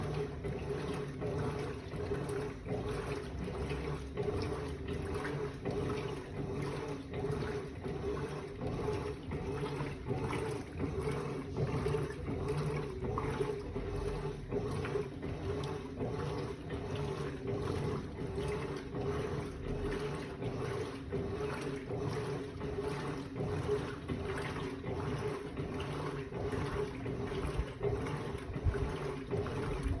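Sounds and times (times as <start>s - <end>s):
washing machine motor hum: 0.0s - 30.0s
water and clothes swishing: 0.0s - 30.0s.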